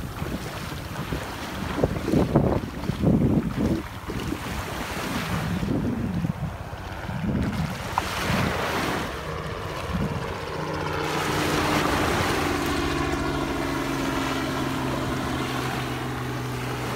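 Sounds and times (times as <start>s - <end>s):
ocean surf washing: 0.0s - 16.9s
steady motor hum: 0.0s - 16.9s
wind buffeting microphone: 0.0s - 16.9s.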